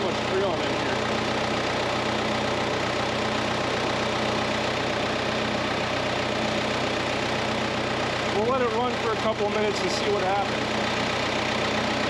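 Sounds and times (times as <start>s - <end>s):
air conditioner running: 0.0s - 12.0s
tractor engine idling: 0.0s - 12.0s.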